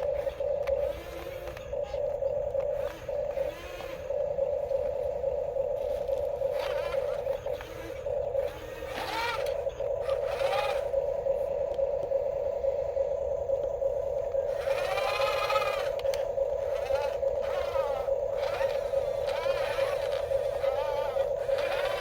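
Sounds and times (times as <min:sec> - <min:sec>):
electric motor whine: 0:00.0 - 0:22.0
high-pitched wavering squeals: 0:00.0 - 0:22.0.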